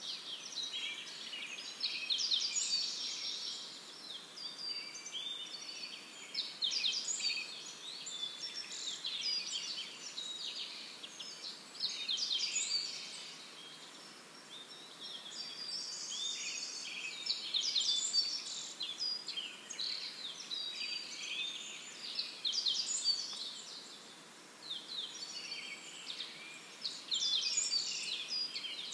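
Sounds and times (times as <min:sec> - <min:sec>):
faint steady hiss: 0:00.0 - 0:28.9
small birds chirping: 0:00.0 - 0:28.9.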